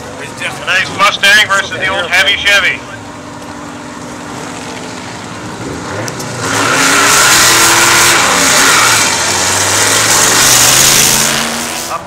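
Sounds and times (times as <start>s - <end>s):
drag cars revving and launching: 0.0s - 12.0s.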